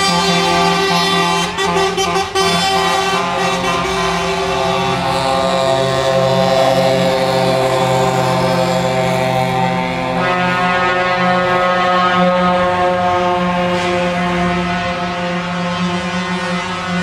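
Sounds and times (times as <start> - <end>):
diesel engines running: 0.0 - 17.0
truck air horns: 0.0 - 17.0.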